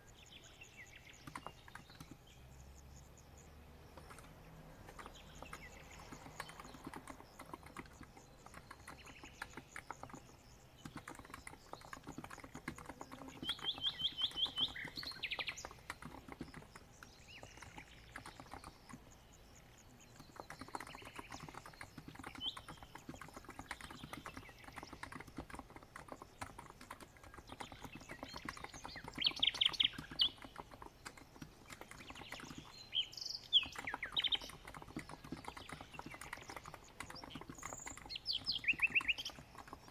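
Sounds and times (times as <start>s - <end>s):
birdsong trills: 0.0s - 39.9s
soft keyboard typing: 1.0s - 2.7s, 3.4s - 39.9s.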